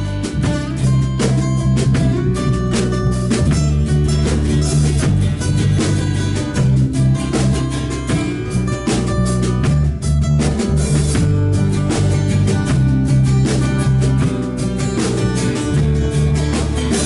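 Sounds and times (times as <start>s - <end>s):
bass line: 0.0s - 17.0s
drum kit: 0.0s - 17.0s
guitar: 0.0s - 17.0s.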